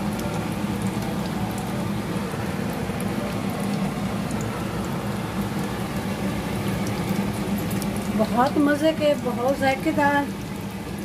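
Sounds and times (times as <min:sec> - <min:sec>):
food deep-frying in hot oil: 0:00.0 - 0:11.0
oil crackling: 0:00.0 - 0:11.0.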